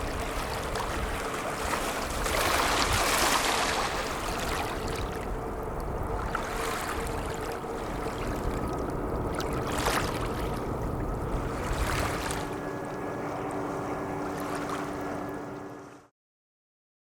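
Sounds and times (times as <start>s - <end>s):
boat motor humming: 0.0s - 16.1s
water splashing and sloshing: 0.0s - 16.1s.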